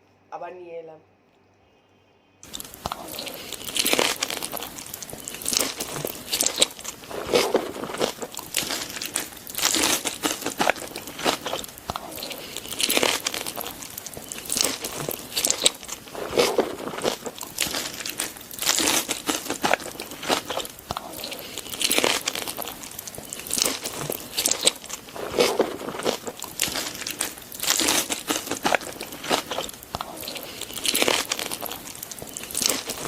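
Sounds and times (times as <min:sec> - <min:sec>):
person chewing crunchy food: 0:02.4 - 0:33.0.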